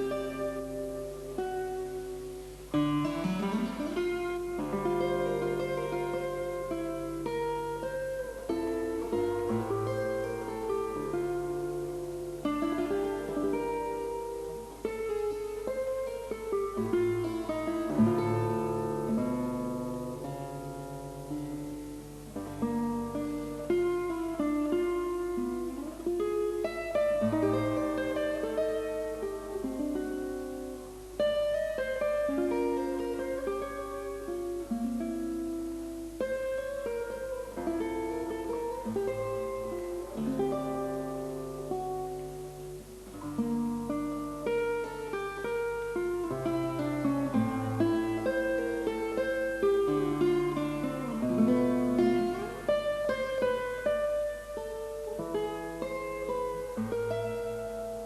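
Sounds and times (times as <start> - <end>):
acoustic guitar plucking: 0.0 - 58.0.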